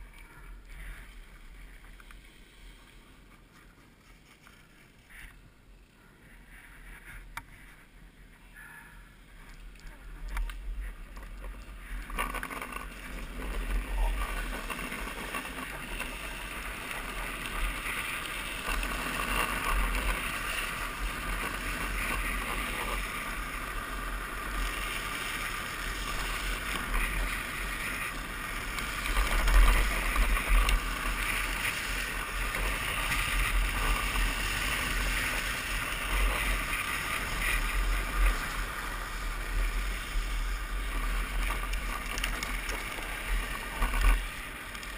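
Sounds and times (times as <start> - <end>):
plastic wheels rolling on asphalt: 0.0 - 8.5, 9.1 - 44.9.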